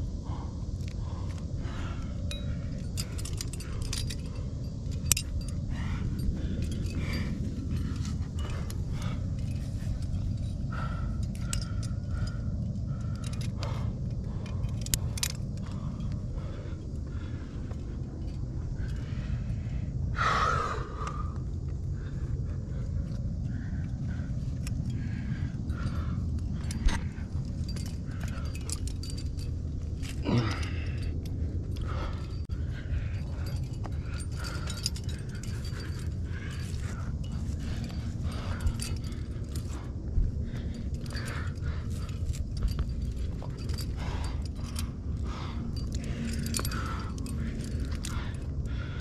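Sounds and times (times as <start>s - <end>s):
climbing gear clinking: 0.0s - 49.0s
steady low rumble: 0.0s - 49.0s.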